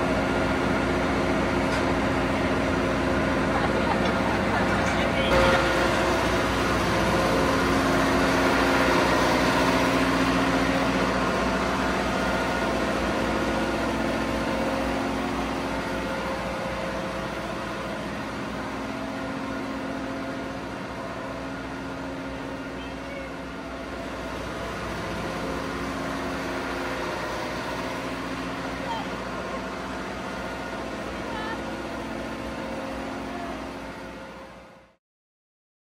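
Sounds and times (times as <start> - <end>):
diesel engine room drone: 0.0 - 35.0.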